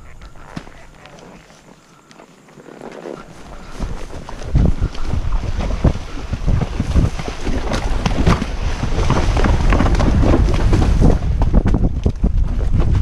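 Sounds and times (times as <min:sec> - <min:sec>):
hoofbeats: 0:00.0 - 0:13.0
wind buffeting microphone: 0:00.0 - 0:13.0.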